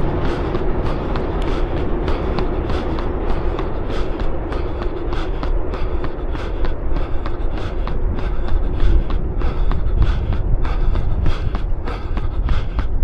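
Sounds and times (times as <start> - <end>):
running footsteps on path: 0.0 - 13.0
wind rumble on microphone: 0.0 - 13.0.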